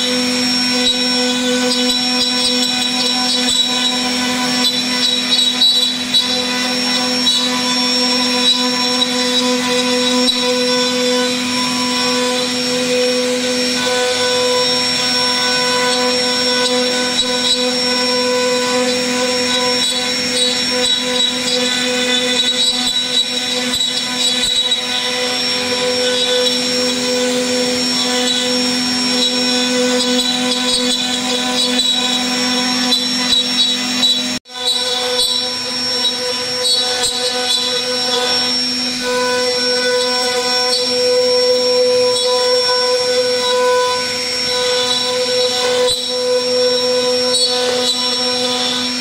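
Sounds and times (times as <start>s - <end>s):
router bit cutting wood: 0.0s - 49.0s
router spindle whine: 0.0s - 49.0s.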